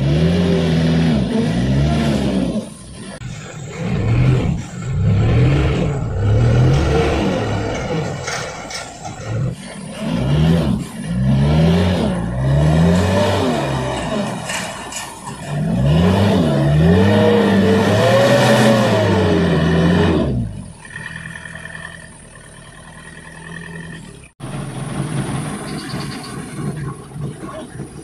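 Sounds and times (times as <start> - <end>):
truck diesel engine revving: 0.0 - 28.0.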